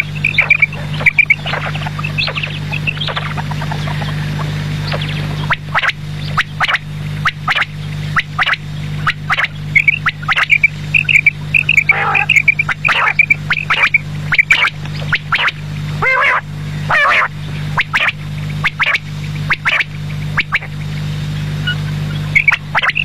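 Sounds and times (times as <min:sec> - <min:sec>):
quail calling: 0:00.0 - 0:20.9, 0:21.6 - 0:23.0
steady low hum: 0:00.0 - 0:23.0.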